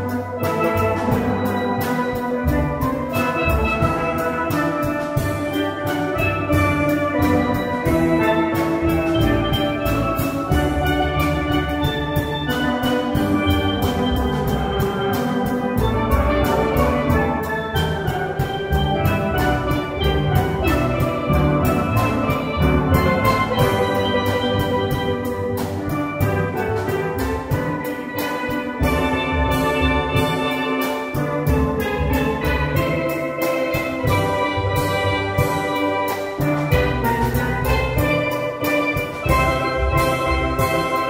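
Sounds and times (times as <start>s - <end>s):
instrumental ensemble music: 0.0s - 41.0s.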